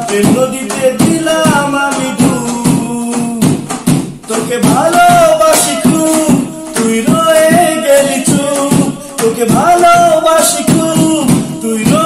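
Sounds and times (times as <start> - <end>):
instrumental backing: 0.0 - 12.0
man singing: 0.0 - 12.0
percussion beat: 0.0 - 12.0.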